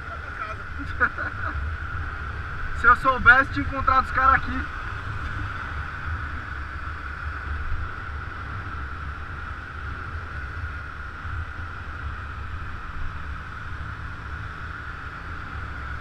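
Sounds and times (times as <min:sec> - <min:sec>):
scooter engine drone: 0:00.0 - 0:16.0
wind rumbling on microphone: 0:00.0 - 0:16.0.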